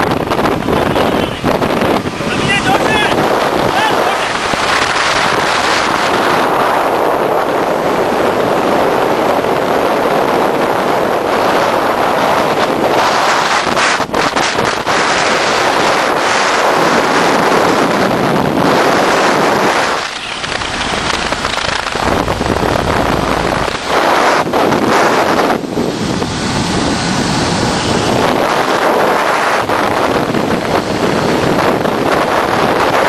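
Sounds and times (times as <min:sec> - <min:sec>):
wind roaring over microphone: 0:00.0 - 0:33.0.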